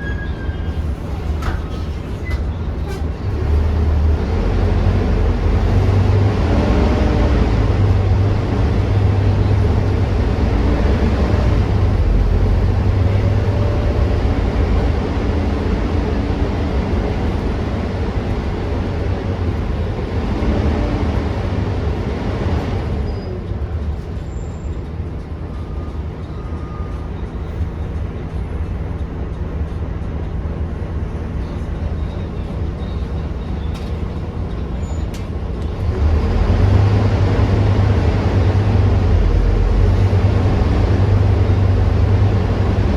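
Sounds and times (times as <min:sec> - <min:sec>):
diesel bus engine humming: 0:00.0 - 0:42.9.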